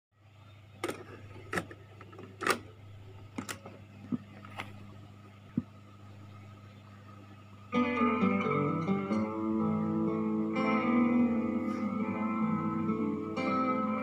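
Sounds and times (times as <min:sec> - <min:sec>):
tape hiss: 0:00.2 - 0:14.0.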